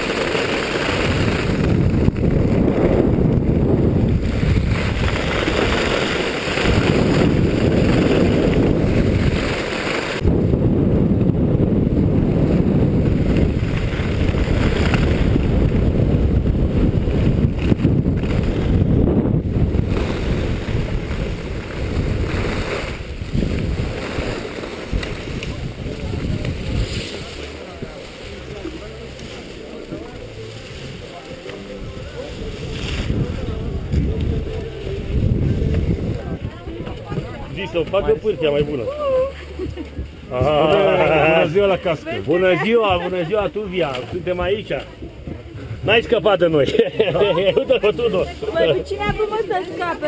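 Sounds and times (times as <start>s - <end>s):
skis scraping over snow: 0.0s - 10.3s, 12.3s - 50.0s
wind buffeting microphone: 0.0s - 29.1s, 29.9s - 46.0s.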